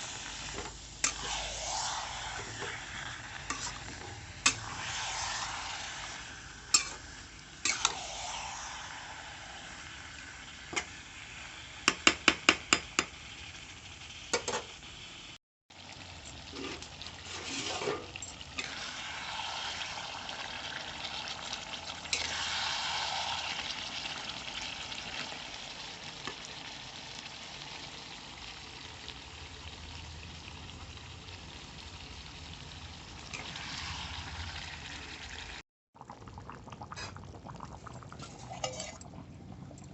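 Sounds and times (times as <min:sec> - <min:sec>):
curry sizzling in a pan: 0:00.0 - 0:39.7.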